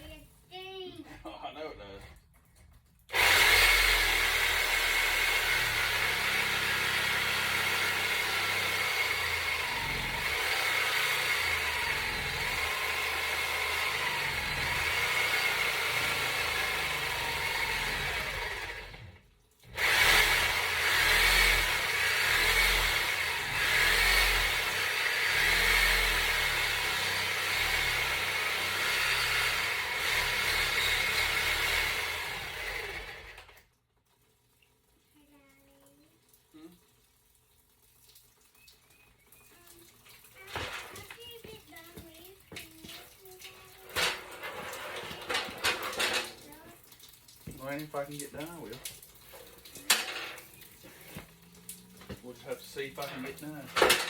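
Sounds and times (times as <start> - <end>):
power tool cutting pipe: 3.1 - 33.6, 40.4 - 46.7, 47.6 - 54.0.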